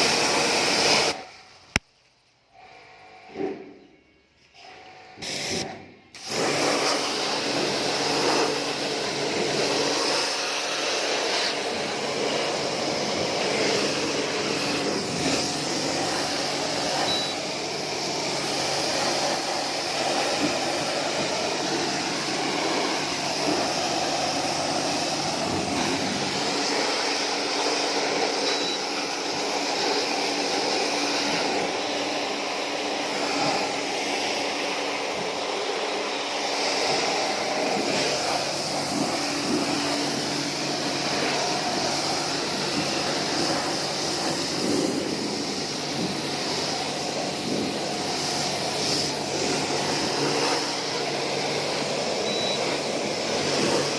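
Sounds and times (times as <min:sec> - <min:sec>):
pressure washer spraying: 0:00.0 - 0:01.2, 0:05.2 - 0:53.9.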